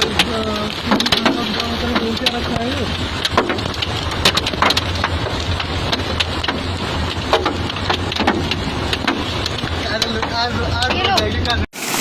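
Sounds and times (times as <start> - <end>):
hailstones striking hard surfaces: 0.0 - 12.0
heavy rain rushing: 0.0 - 12.0.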